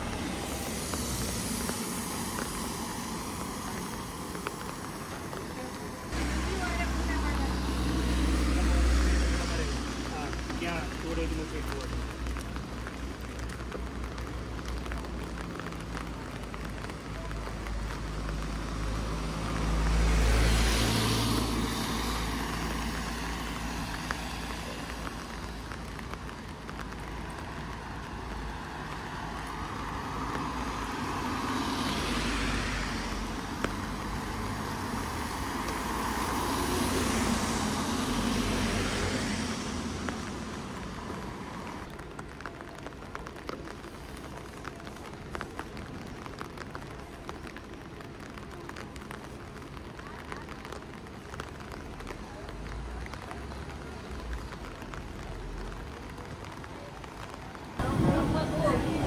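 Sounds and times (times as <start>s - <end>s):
cars passing on wet road: 0.0s - 59.0s.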